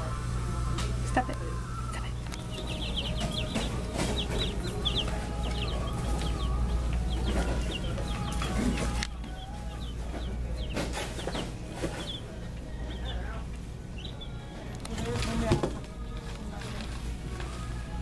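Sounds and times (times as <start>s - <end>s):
baby chicks peeping: 0.0s - 18.0s.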